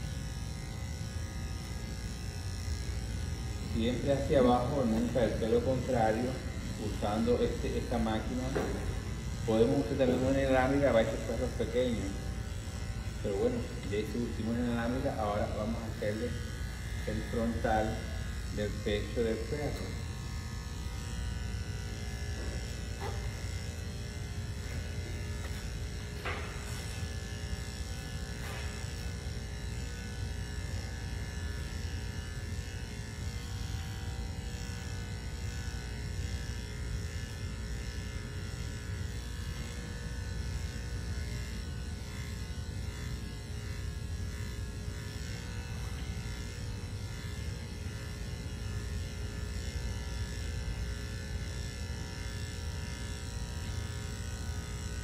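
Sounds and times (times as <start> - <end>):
electric clippers buzzing: 0.0 - 55.0.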